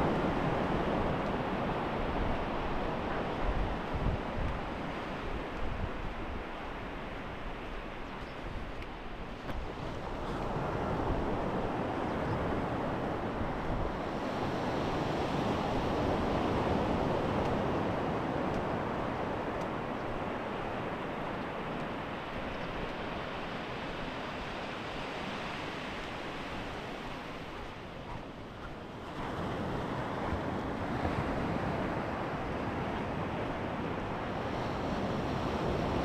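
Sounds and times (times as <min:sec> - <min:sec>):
wind on microphone: 0:00.0 - 0:36.0.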